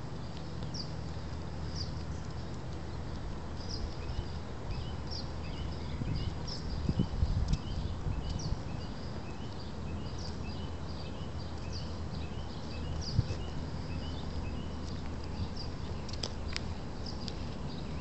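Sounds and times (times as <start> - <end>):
low wind rumble: 0.0 - 18.0
small birds chirping: 0.0 - 18.0.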